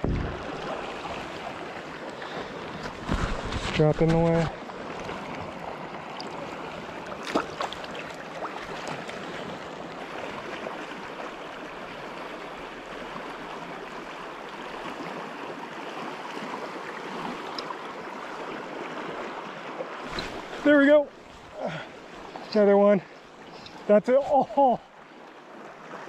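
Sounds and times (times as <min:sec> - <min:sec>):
river current rushing: 0:00.0 - 0:03.6, 0:04.3 - 0:26.0.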